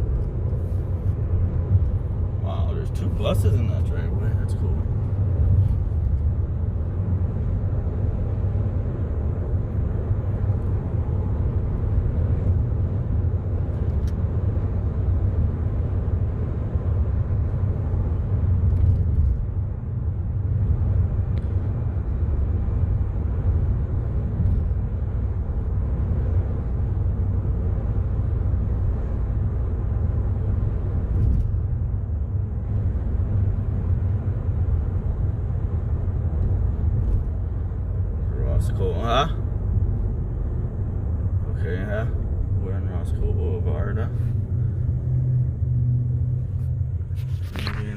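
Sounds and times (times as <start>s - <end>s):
car interior road rumble: 0.0s - 47.9s.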